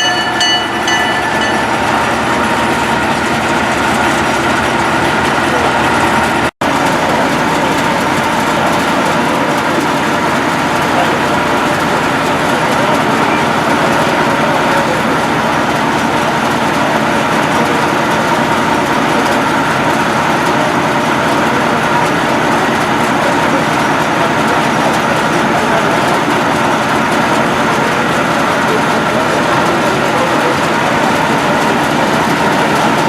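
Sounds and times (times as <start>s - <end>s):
train wheels on track: 0.0s - 33.0s.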